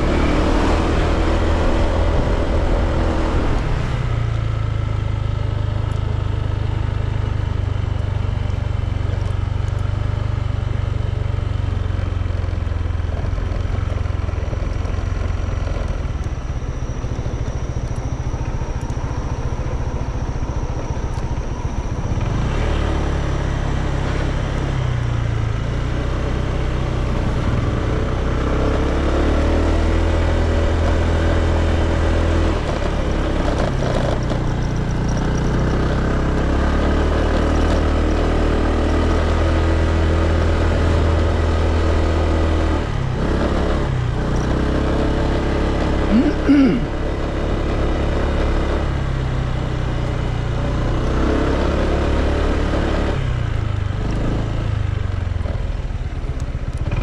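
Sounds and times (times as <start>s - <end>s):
motor scooter engine running: 0.0s - 57.0s.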